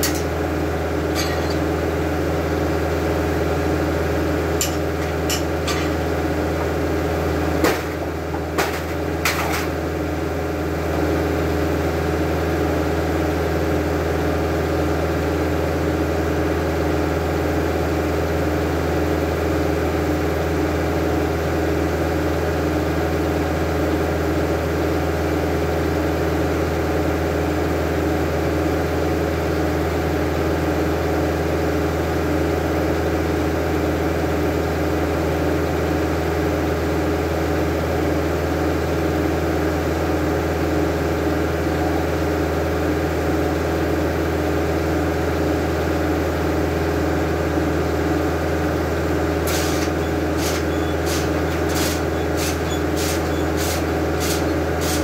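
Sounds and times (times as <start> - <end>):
sawmill engine running steadily: 0.0 - 55.0.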